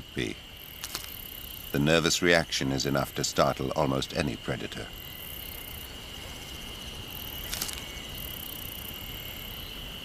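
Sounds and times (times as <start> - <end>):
insect high trill: 0.0 - 10.0.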